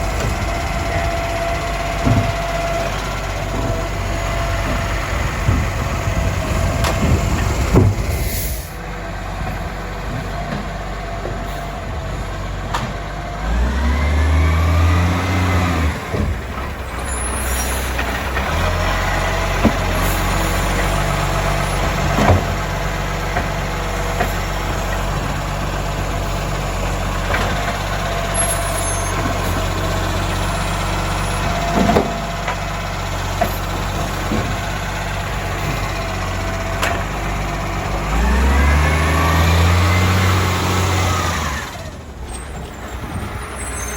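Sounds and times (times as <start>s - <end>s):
garbage truck diesel engine: 0.0s - 43.9s.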